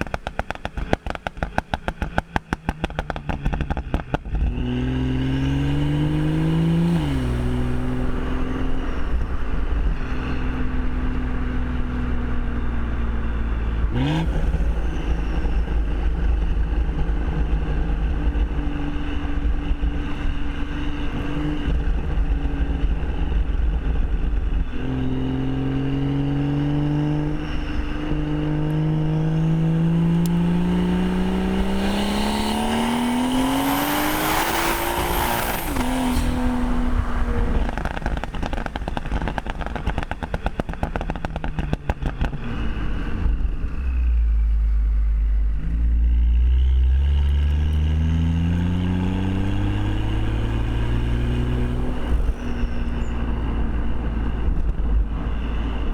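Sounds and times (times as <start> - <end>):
exhaust crackles and pops: 0.0 - 55.9
car engine revving hard: 2.9 - 11.6, 13.6 - 23.4, 24.4 - 43.8, 46.4 - 55.9.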